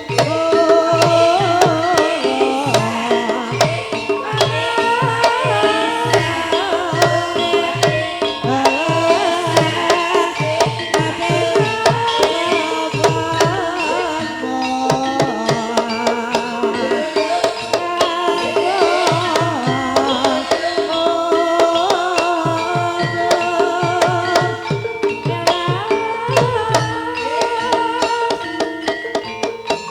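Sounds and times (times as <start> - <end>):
hand drum beating: 0.0 - 29.9
person singing: 0.0 - 29.9
tuned percussion: 0.0 - 29.9.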